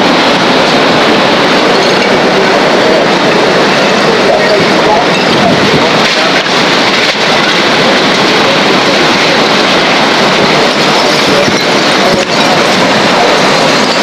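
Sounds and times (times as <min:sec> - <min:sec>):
driving rain: 0:00.0 - 0:14.0
strong wind blowing: 0:00.0 - 0:14.0.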